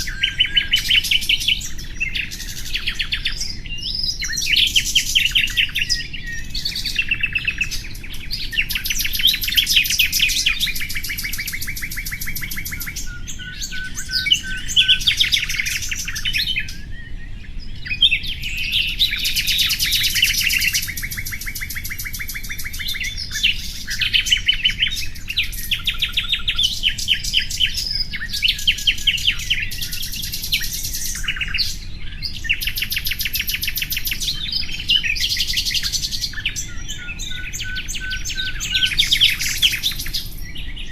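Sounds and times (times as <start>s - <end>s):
songbird trilling and chirping: 0.0s - 40.9s.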